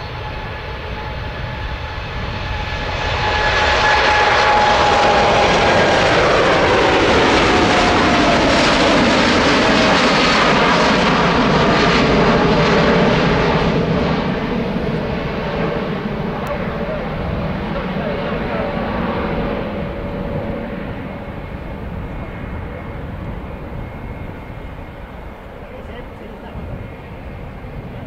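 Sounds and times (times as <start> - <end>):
jet engines at take-off: 0.0 - 28.0.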